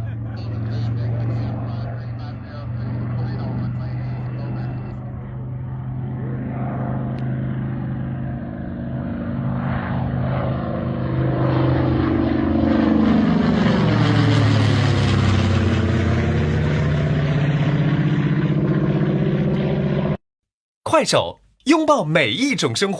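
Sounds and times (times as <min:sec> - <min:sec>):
aircraft engine drone: 0:00.0 - 0:20.2.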